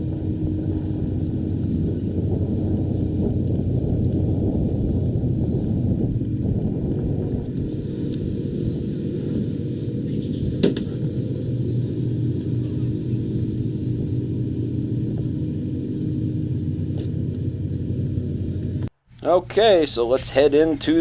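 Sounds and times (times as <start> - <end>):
tractor engine idling: 0.0 - 18.9.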